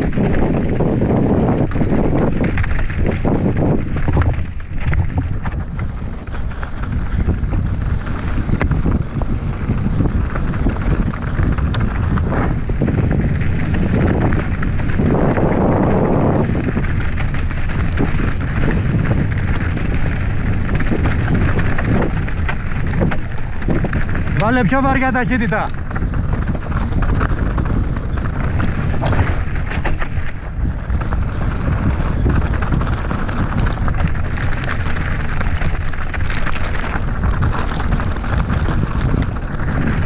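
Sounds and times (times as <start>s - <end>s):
bike clicks and rattles: 0.0s - 40.0s
tyres rushing on loose stones: 0.0s - 40.0s
wind buffeting microphone: 0.0s - 40.0s.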